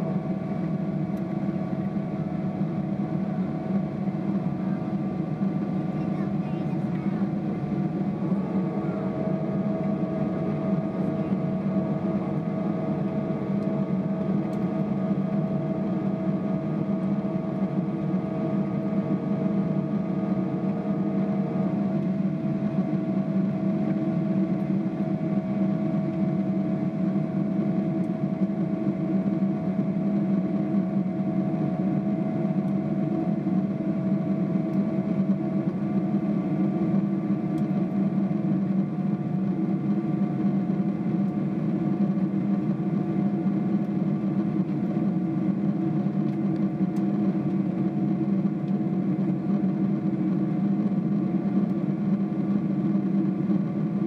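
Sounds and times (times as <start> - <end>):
airplane cabin engine rumble: 0.0 - 54.0
steady humming tones: 0.0 - 54.0.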